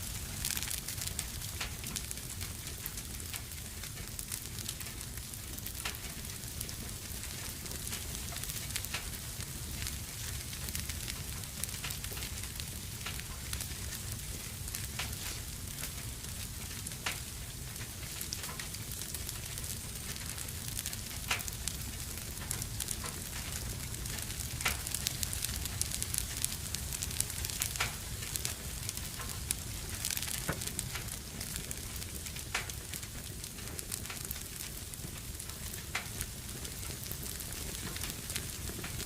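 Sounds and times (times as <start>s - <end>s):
fire low rumble and hiss: 0.0s - 39.0s
wood fire crackling and popping: 0.0s - 39.0s.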